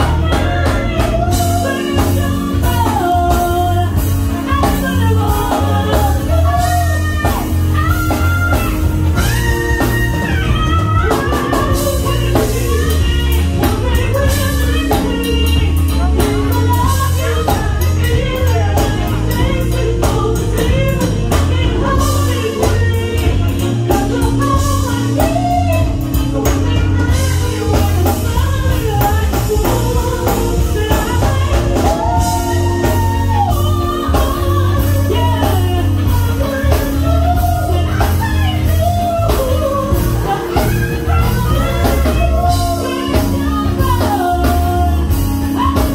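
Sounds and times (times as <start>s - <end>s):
live band playing: 0.0s - 45.9s
saxophone: 0.0s - 45.9s
woman singing: 0.0s - 45.9s.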